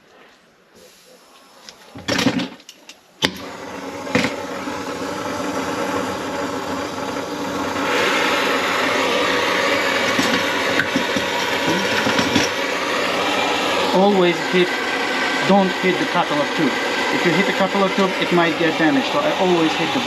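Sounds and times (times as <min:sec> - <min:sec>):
torch flame hissing: 0:03.2 - 0:20.0.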